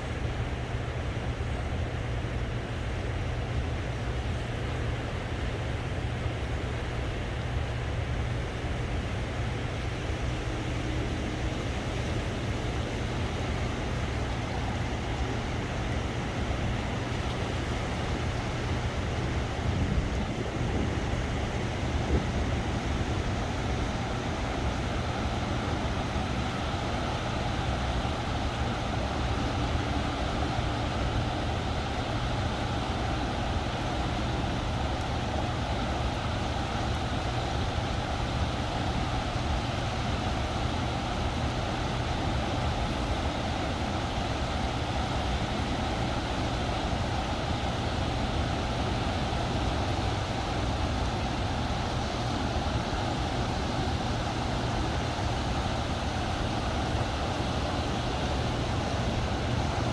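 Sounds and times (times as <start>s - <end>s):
water rushing through dam gates: 8.4s - 59.9s.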